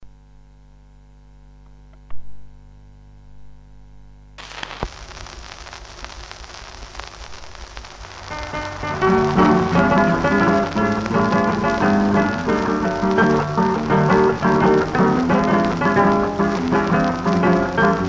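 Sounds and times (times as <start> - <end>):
record surface hum: 0.0 - 18.0
record hiss and crackle: 0.1 - 18.0.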